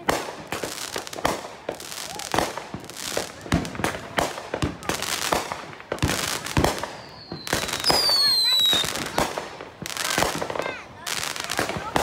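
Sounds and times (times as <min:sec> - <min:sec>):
firework cake bangs: 0:00.0 - 0:12.0.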